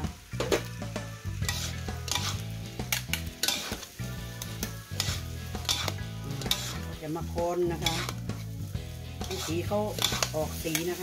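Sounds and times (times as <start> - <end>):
rice sizzling in wok: 0.0 - 11.0
metal spatula scraping wok: 0.4 - 11.0.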